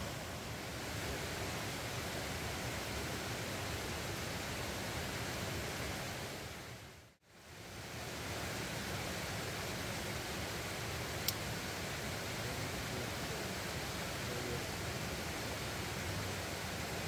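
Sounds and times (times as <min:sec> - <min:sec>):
rocky mountain stream rushing: 0:00.0 - 0:17.0.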